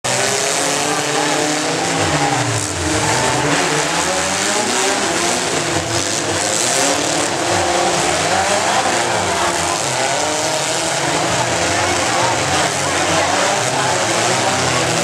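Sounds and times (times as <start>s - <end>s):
pickup truck engine revving high: 0.0s - 15.0s.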